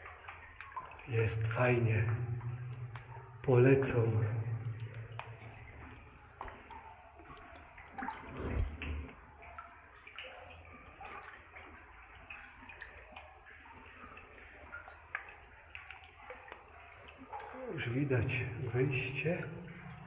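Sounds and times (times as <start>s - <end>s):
small splashes and drips: 0.0s - 20.0s
water sloshing around wading legs: 0.0s - 20.0s.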